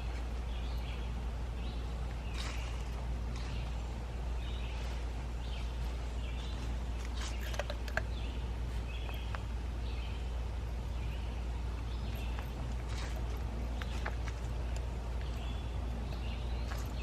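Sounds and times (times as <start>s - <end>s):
bird chirping: 0.0s - 17.0s
low rumble of outdoor noise: 0.0s - 17.0s.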